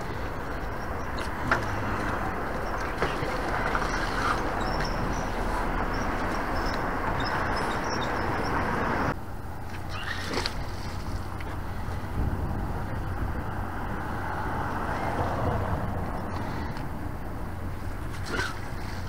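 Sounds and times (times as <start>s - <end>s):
low outdoor rumble: 0.0s - 19.0s
road traffic rushing: 0.0s - 19.0s.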